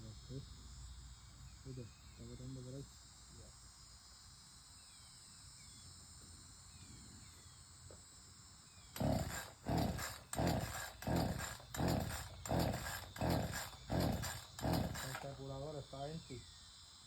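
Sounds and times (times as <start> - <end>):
faint crickets: 0.0 - 17.0.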